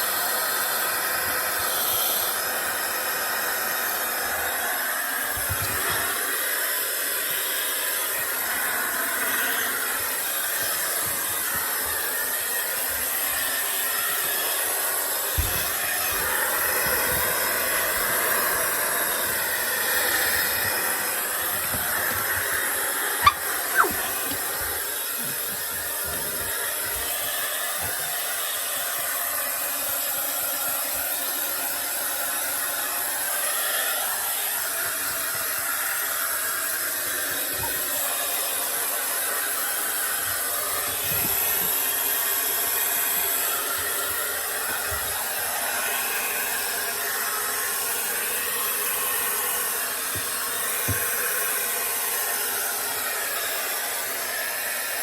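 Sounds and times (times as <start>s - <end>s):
hair dryer blowing with motor whine: 0.0s - 55.0s.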